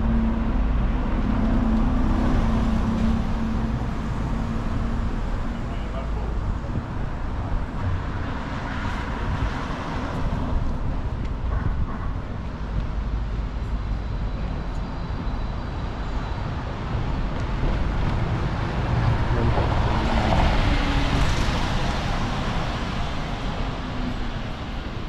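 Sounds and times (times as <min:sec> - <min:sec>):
street traffic noise: 0:00.0 - 0:25.0.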